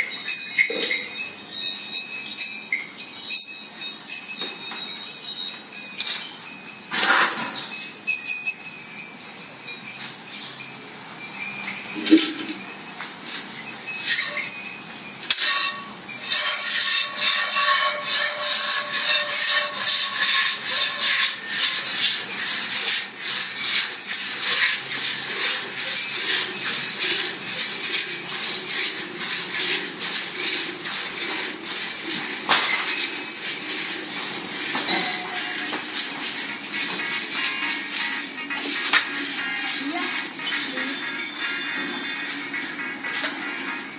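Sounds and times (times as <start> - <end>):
steady high-pitched tone: 0.0 - 43.9.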